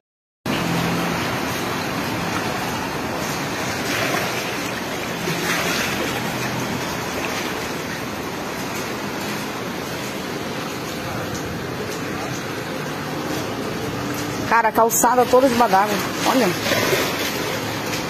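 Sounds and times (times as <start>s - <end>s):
floodwater running: 0.5s - 18.0s
heavy rain pouring: 0.5s - 18.0s.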